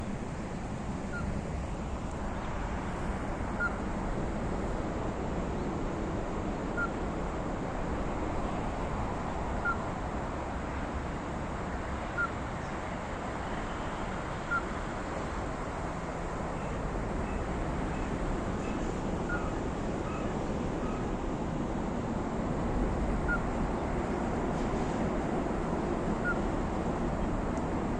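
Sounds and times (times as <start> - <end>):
steady background noise: 0.0 - 27.9.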